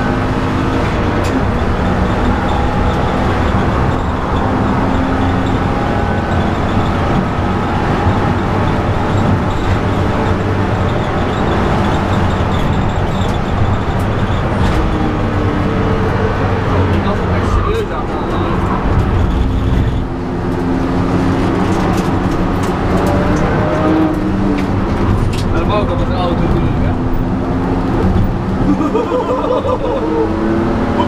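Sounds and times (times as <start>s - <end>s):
car engine at speed: 0.0s - 31.0s
tyre and road noise: 0.0s - 31.0s.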